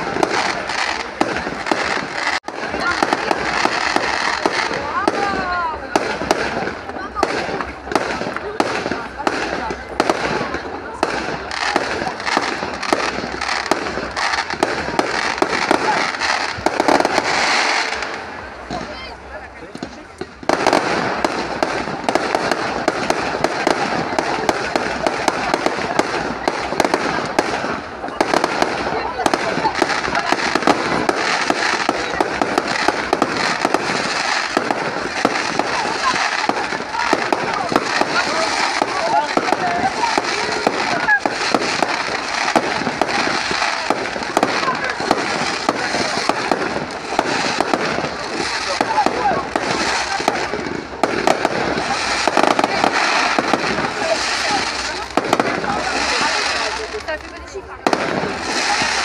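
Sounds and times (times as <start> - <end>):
fireworks bangs: 0.0 - 59.0
fireworks crackling: 0.0 - 59.0.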